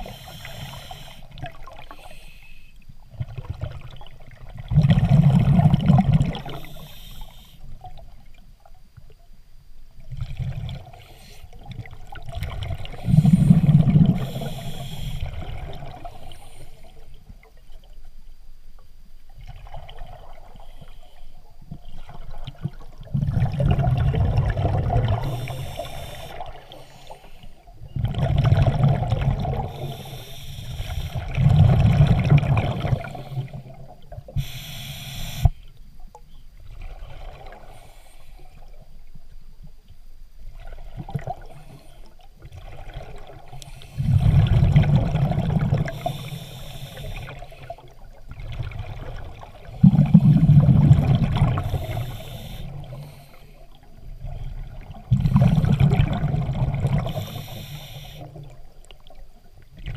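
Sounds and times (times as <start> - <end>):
quiet water sound: 0.0 - 59.9
underwater bubbles gurgling: 0.0 - 59.9.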